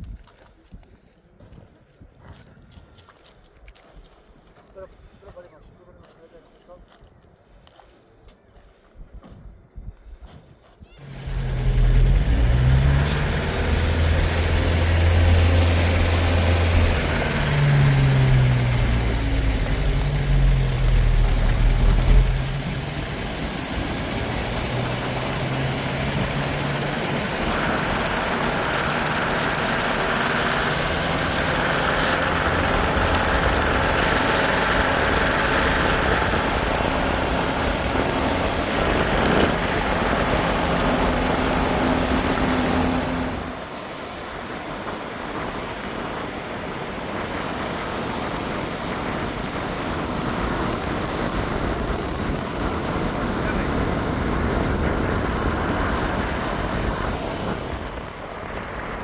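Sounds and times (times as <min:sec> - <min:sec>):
vehicle engine running: 0:11.0 - 0:59.0.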